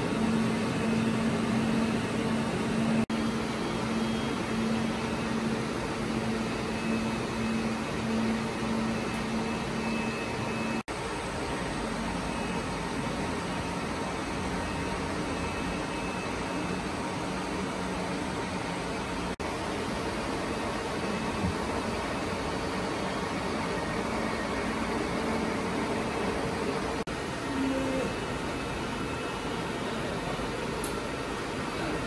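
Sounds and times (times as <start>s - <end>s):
server fans hissing: 0.0s - 32.0s.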